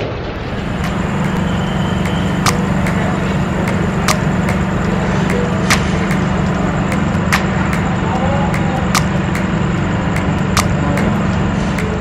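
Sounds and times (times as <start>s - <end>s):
low machine hum: 0.3s - 12.0s
sharp clicks: 0.6s - 12.0s.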